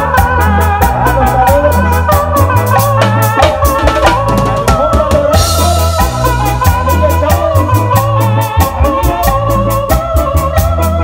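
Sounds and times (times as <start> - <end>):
bass: 0.0 - 11.0
drum kit playing fast rhythm: 0.0 - 11.0
electronic organ melody: 0.0 - 11.0.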